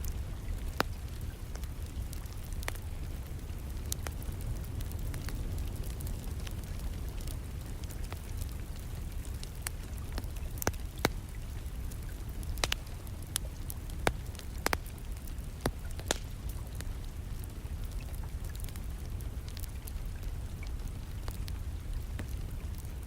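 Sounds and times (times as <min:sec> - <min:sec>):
rain: 0:00.0 - 0:23.0
wood fire crackling: 0:00.0 - 0:23.0.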